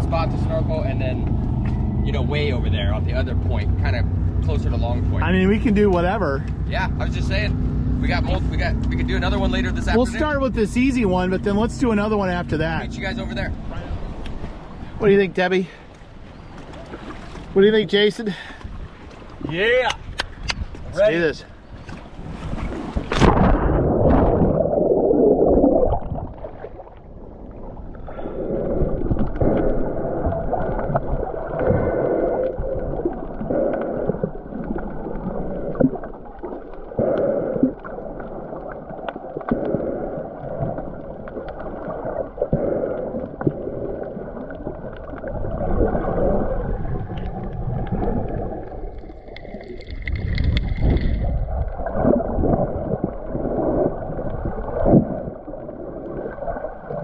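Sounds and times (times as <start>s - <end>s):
muffled underwater sloshing: 0.0s - 57.0s.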